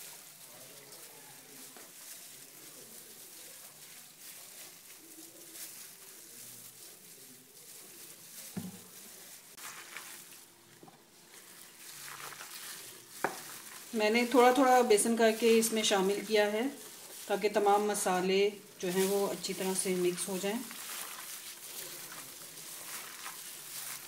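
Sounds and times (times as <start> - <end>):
plastic glove rustling: 0.0 - 24.0
wet squishing of mixture: 0.0 - 24.0.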